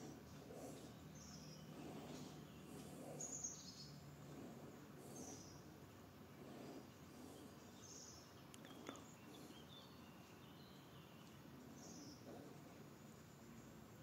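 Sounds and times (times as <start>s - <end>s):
faint birds chirping: 0.0s - 14.0s
outdoor background hiss: 0.0s - 14.0s.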